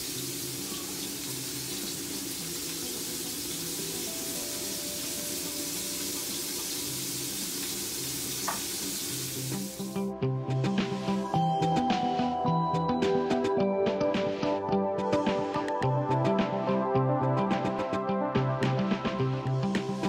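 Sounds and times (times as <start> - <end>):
faint music: 0.0 - 20.0.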